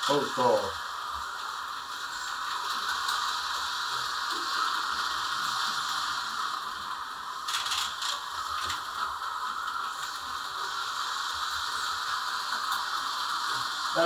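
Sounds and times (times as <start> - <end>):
slot car motor whirring: 0.0 - 14.0.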